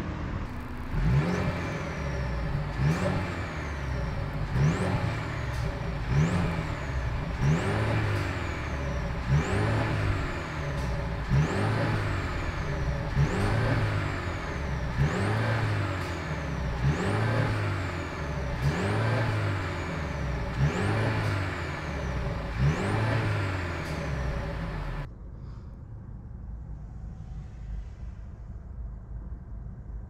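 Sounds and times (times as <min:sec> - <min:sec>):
car engine revving: 0:00.0 - 0:25.1
low hum: 0:00.0 - 0:30.0.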